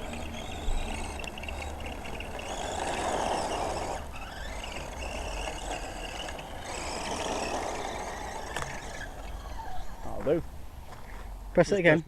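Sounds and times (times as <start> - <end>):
radio-controlled truck running: 0.0 - 10.2.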